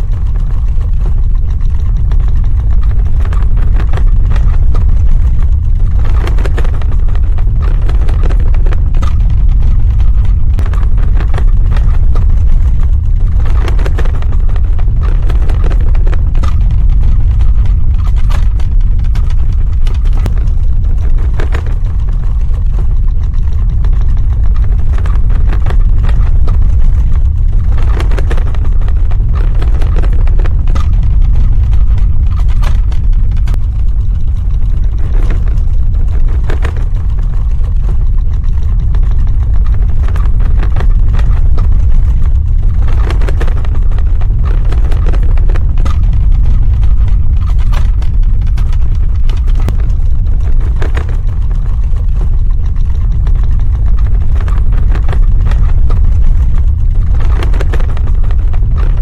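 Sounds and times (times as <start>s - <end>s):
crackling and rattling: 0.0s - 59.0s
deep rumble: 0.0s - 59.0s.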